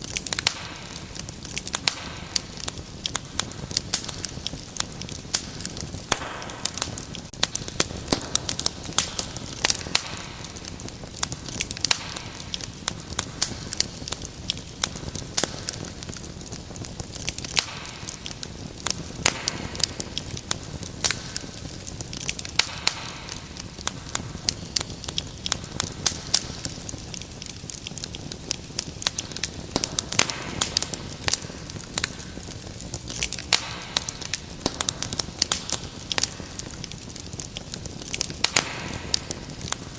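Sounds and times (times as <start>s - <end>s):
hissing flare-ups: 0.0s - 39.9s
wood fire crackling: 0.0s - 39.9s.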